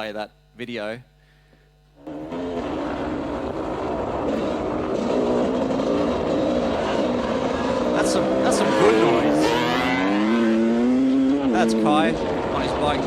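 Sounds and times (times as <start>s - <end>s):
motorbike engine revving: 2.0s - 13.0s.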